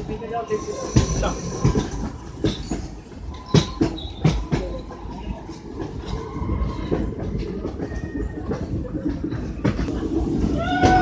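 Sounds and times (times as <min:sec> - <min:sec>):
train rumbling on track: 0:00.0 - 0:11.0
wheels clacking over rail joints: 0:00.0 - 0:11.0.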